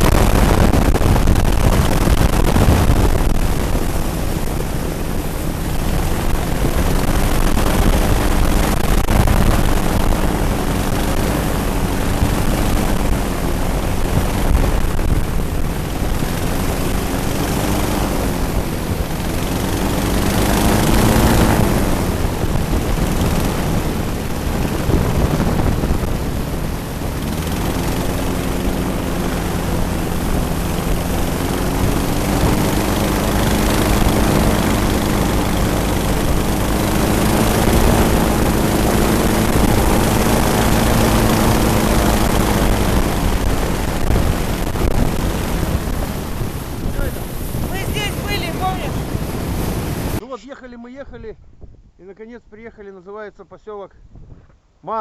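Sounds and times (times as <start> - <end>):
airboat engines droning: 0.0 - 50.2
wind rumble on microphone: 0.0 - 50.2, 51.0 - 52.0, 54.0 - 54.8.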